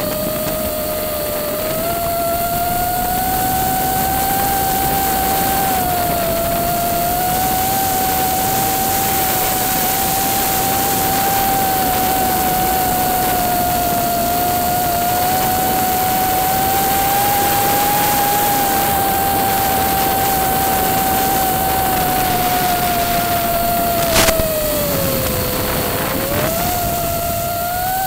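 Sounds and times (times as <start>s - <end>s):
drone motors whining: 0.0s - 28.0s
wind hiss: 0.0s - 28.0s.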